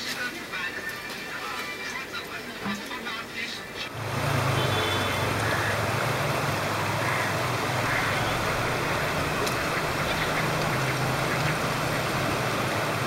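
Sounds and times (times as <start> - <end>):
flowing river water: 0.0 - 13.0
traffic hum: 1.3 - 13.0.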